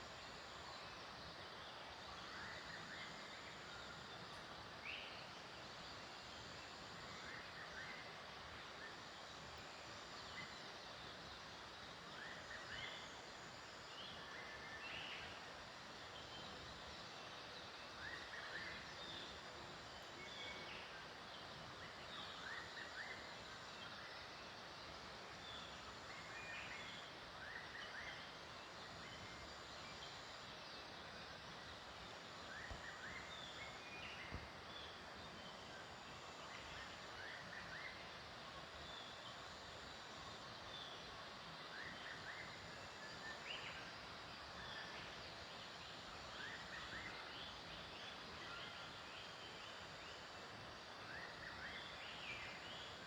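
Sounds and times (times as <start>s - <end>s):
background hiss: 0.0s - 53.0s.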